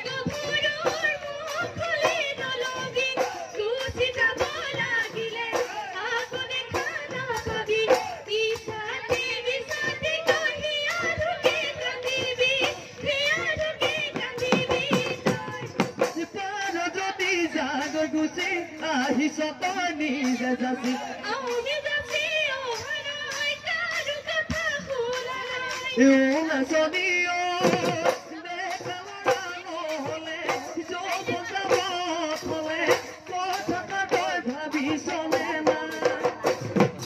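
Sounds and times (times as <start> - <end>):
drums beaten fast: 0.0 - 37.0.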